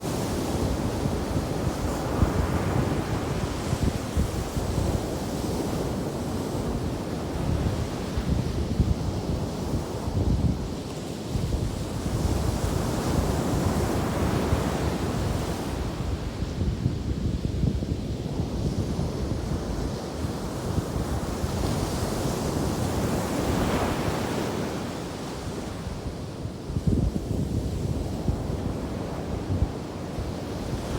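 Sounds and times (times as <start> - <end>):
ocean waves breaking on beach: 0.0 - 17.3, 17.9 - 30.9
wind buffeting microphone: 0.0 - 30.9.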